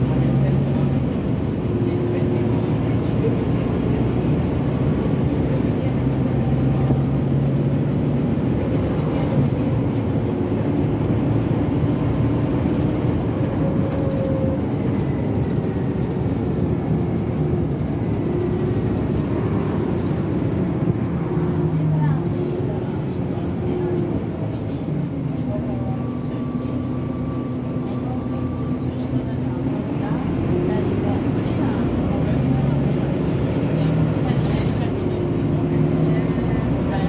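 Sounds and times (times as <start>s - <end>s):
bus diesel engine running: 0.0s - 37.0s
road and body noise: 0.0s - 37.0s.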